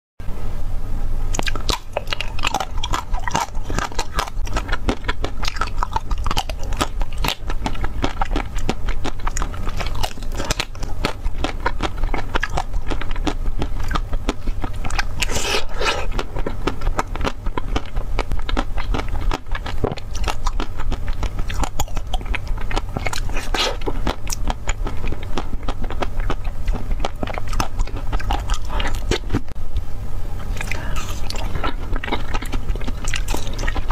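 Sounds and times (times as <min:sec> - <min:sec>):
steady low hum: 0:00.2 - 0:33.9
crunchy chewing of ice cream bar: 0:01.3 - 0:29.6, 0:30.4 - 0:33.9.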